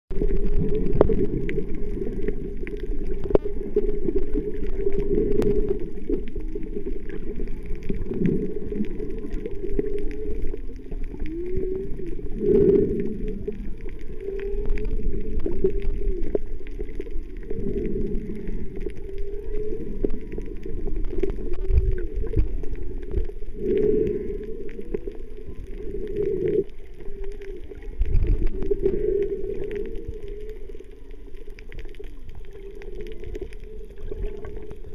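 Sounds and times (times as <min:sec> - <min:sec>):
underwater water rush: 0:00.1 - 0:34.9
faint clicks: 0:00.2 - 0:34.9.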